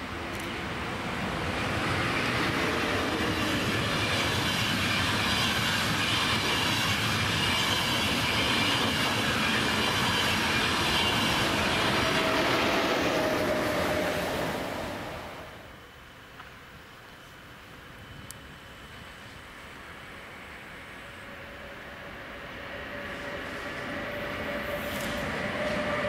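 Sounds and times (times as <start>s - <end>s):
train passing on rails: 0.0s - 26.0s.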